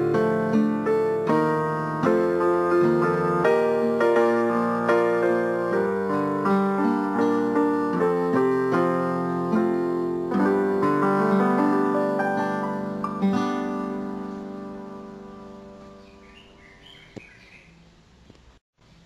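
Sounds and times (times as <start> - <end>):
piano music: 0.0 - 16.6.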